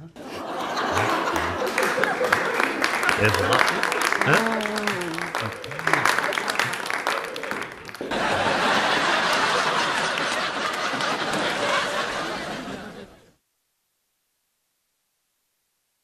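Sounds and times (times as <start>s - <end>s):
audience laughter: 0.0s - 13.3s.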